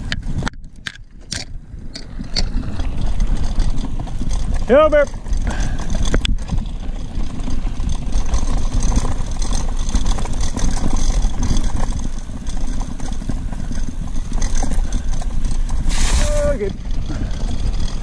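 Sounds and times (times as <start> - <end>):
bicycle rattling over rough ground: 0.0 - 18.0
wind over microphone: 0.0 - 18.0.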